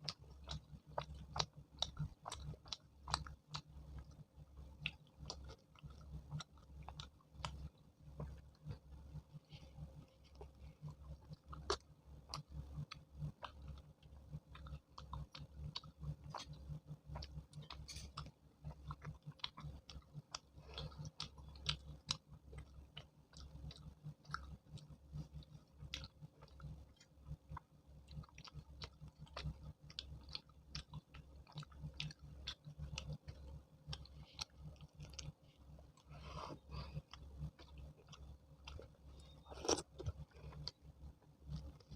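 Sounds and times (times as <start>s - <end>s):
person chewing with wet smacks: 0.0s - 41.9s.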